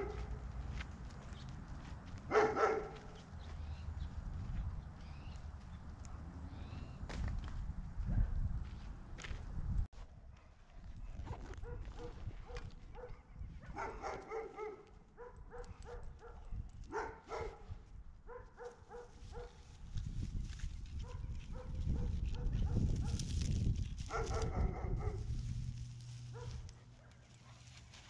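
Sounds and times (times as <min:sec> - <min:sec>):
low rumble of wind: 0:00.0 - 0:28.0.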